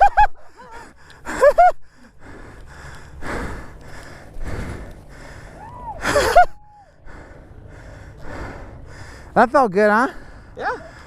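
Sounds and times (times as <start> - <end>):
person breathing hard: 0.4 - 9.4, 10.1 - 11.0.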